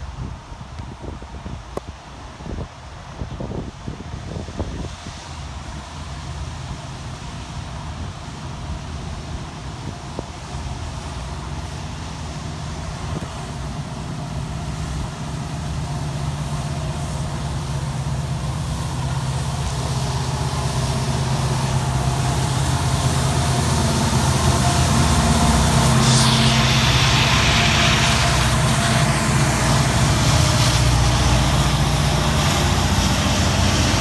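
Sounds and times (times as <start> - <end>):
diesel locomotive engines droning: 0.0 - 34.0.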